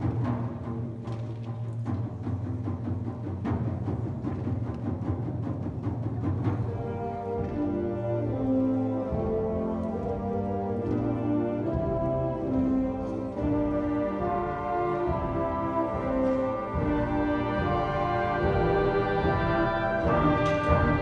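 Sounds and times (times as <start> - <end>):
symphonic band playing: 0.0 - 21.0.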